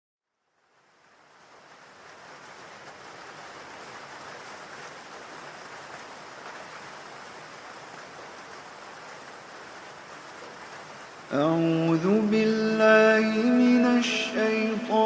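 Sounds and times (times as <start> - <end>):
steady rainfall: 0.3 - 15.0.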